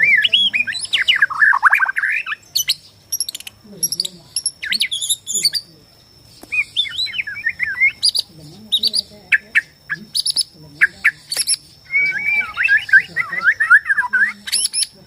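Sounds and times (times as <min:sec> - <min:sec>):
bird singing whistled phrases: 0:00.0 - 0:05.7, 0:06.4 - 0:15.0.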